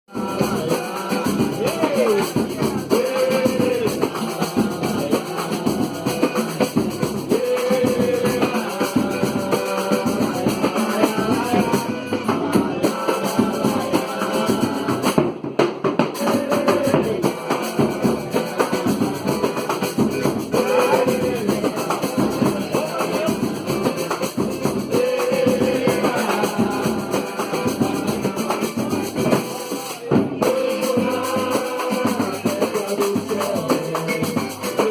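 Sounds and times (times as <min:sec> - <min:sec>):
band playing music: 0:00.1 - 0:34.9
drum kit and percussion beat: 0:00.1 - 0:34.9.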